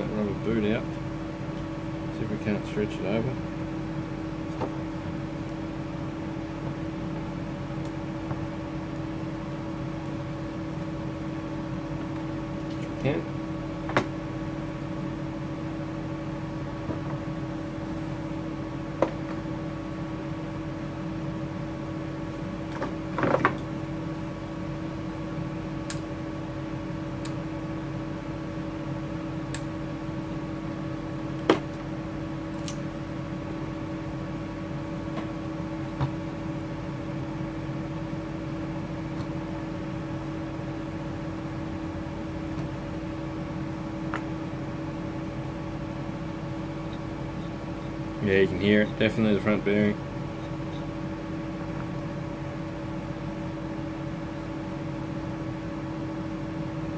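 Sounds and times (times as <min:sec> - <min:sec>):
vacuum motor humming: 0:00.0 - 0:56.9.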